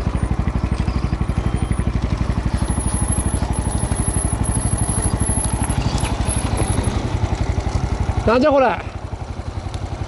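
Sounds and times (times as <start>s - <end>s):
motorcycle engine putting: 0.0s - 10.0s.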